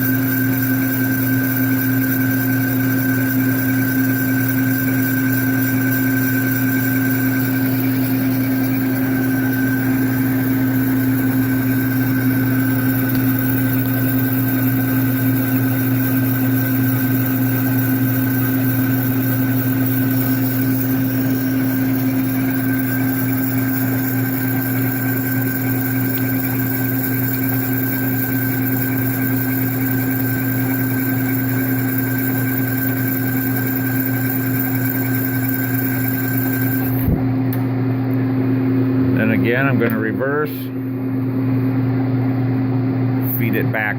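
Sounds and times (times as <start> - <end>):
metal lathe humming with whine: 0.0 - 43.6.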